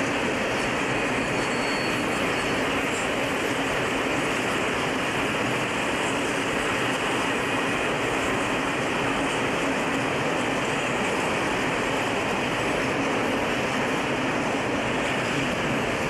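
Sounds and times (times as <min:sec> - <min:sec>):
freight train wheels rolling on rails: 0:00.0 - 0:16.0.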